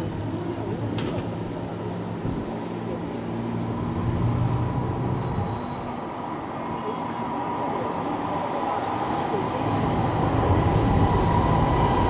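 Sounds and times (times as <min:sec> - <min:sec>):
train rumbling on tracks: 0:00.0 - 0:12.0.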